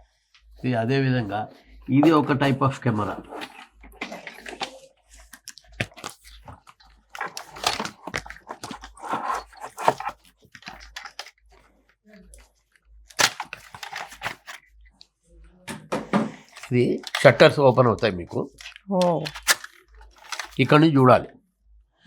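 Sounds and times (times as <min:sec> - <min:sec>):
rustling and crinkling: 0:01.6 - 0:21.0.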